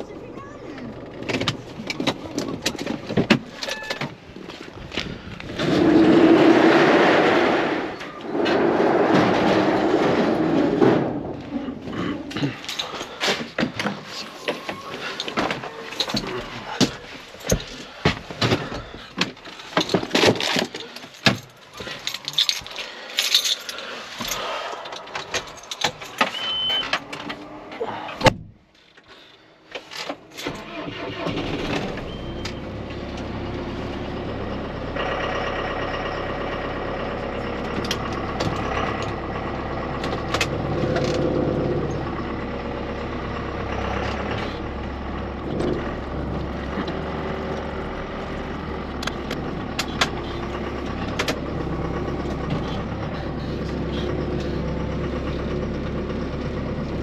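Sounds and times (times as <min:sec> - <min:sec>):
tractor diesel engine idling: 0:09.6 - 0:28.9, 0:30.2 - 0:57.0.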